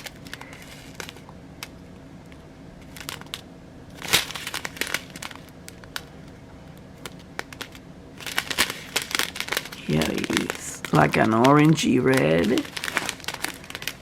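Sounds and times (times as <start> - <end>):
plastic bags crinkling: 0.0 - 1.8, 2.8 - 6.2, 7.0 - 14.0.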